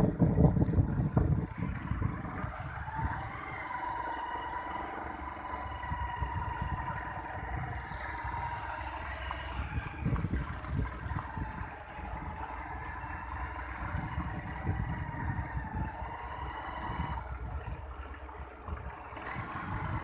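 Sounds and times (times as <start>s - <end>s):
small motorbike engine running: 0.0s - 20.0s
wind rumbling on microphone: 0.0s - 20.0s.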